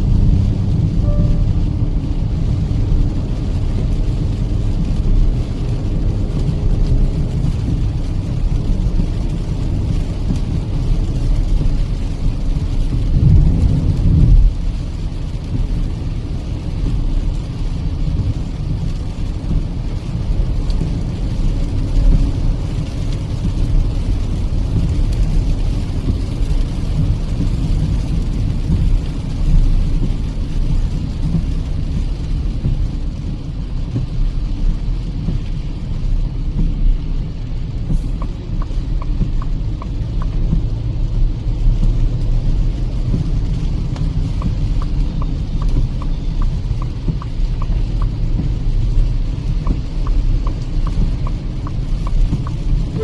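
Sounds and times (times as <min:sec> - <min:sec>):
rain: 0:00.0 - 0:53.0
road and engine rumble in car: 0:00.0 - 0:53.0.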